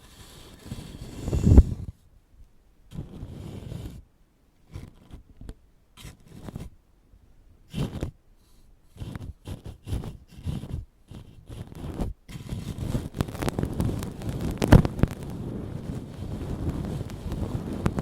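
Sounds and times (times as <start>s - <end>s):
ear pick scratching on microphone: 0.0s - 2.0s, 2.9s - 4.0s, 4.7s - 6.7s, 7.7s - 8.2s, 8.9s - 18.0s.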